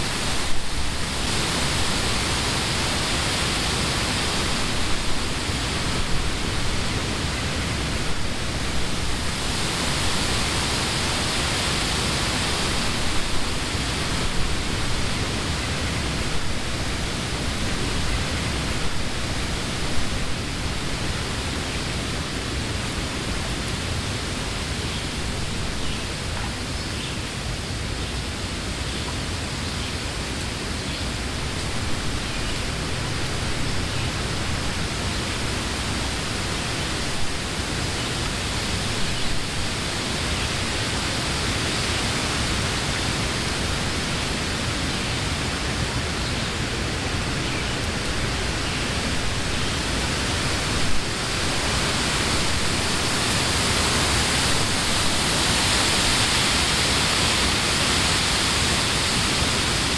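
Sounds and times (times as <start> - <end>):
wind rushing through trees: 0.0 - 59.9.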